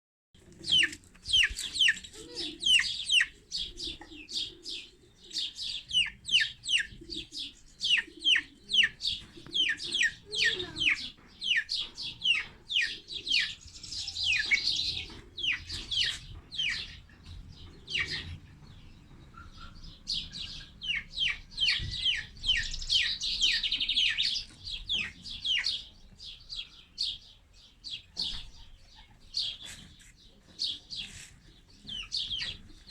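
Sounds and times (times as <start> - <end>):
baby chicks peeping: 0.4 - 32.9.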